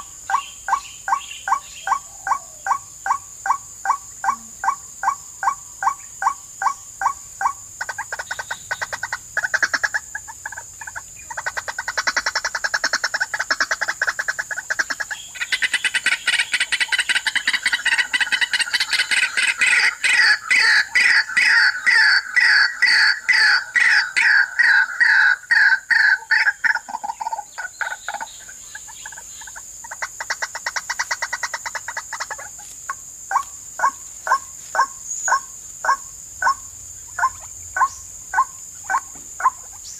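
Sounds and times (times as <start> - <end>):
waterhen calls: 0.0 - 32.5.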